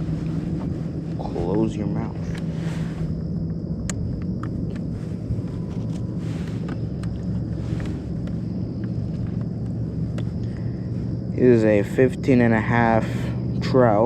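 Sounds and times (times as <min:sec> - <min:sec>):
low hum: 0:00.0 - 0:14.0
low rumble: 0:00.0 - 0:14.0.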